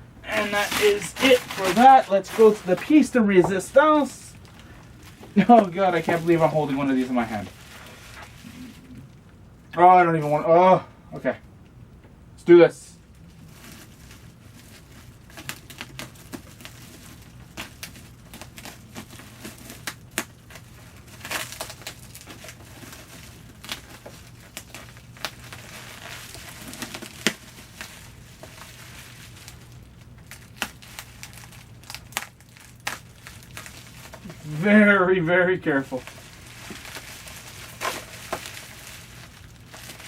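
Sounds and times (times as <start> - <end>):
packaging crinkling and crackling: 0.2 - 9.2, 13.0 - 40.0.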